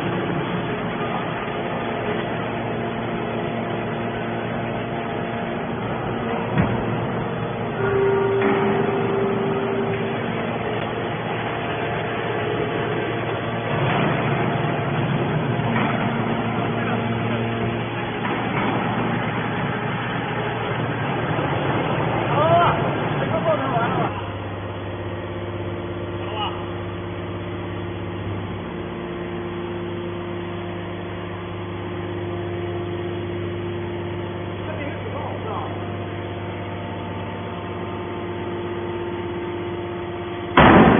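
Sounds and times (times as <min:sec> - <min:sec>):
baler mechanical drone with hiss: 0:00.0 - 0:40.9.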